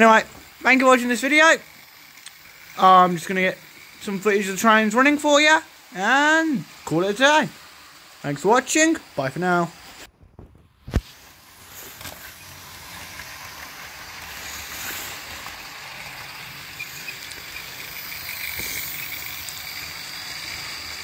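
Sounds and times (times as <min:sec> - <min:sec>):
model train motor whirring: 0:00.0 - 0:10.1, 0:10.8 - 0:21.0
wheels rattling over rails: 0:00.0 - 0:21.0.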